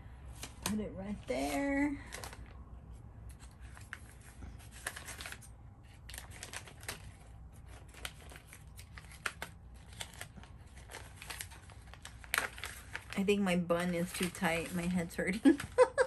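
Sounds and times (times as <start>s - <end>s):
packaging rustling and crinkling: 0.3s - 2.6s, 3.2s - 16.0s.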